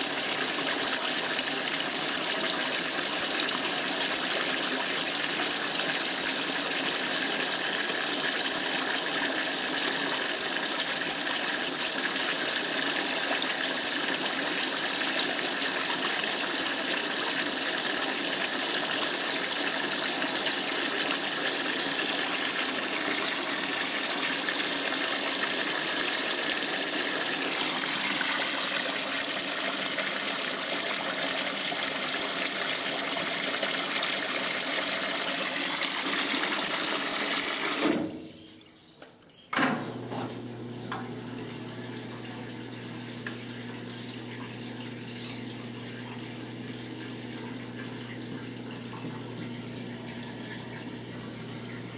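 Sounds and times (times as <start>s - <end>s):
water gushing into washing machine: 0.0s - 38.8s, 39.6s - 51.9s.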